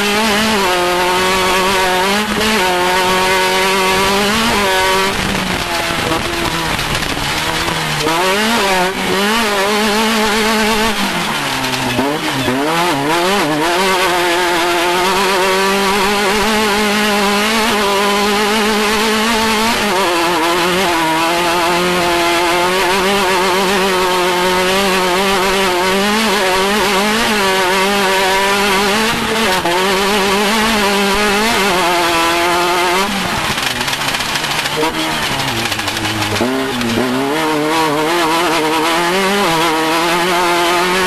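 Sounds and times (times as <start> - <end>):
engine running at high revs: 0.0 - 41.0.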